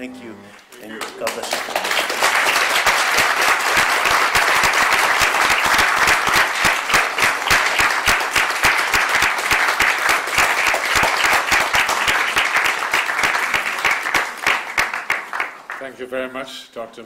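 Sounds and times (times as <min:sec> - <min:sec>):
audience applauding: 0:00.8 - 0:15.9.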